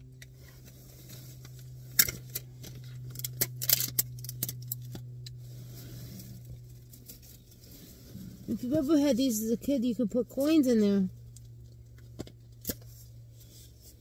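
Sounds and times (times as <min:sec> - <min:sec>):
low car cabin hum: 0:00.0 - 0:14.0.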